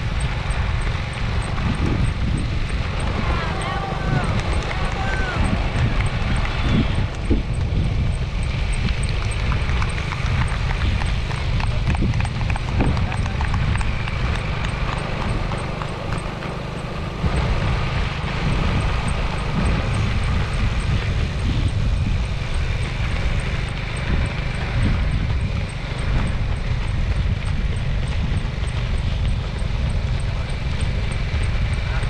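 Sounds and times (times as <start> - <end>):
low rumble of wind: 0.0 - 32.0
runners' footfalls on road: 0.0 - 32.0
vehicle noise: 0.0 - 32.0.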